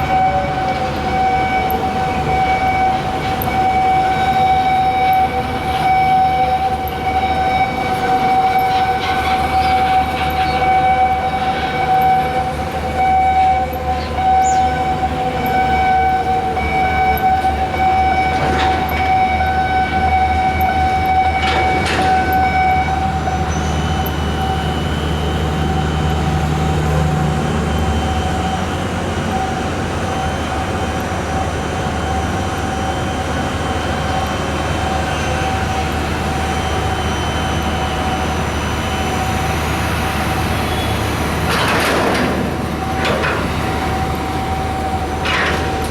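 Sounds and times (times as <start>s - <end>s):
heavy machinery humming: 0.0s - 45.9s.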